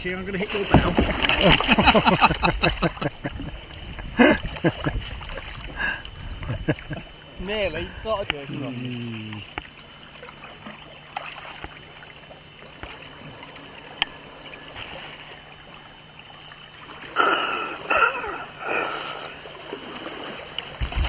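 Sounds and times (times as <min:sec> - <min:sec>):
paddle dipping and dripping: 0:00.0 - 0:21.0
water gurgling around hull: 0:00.0 - 0:21.0
water splashes: 0:00.0 - 0:21.0.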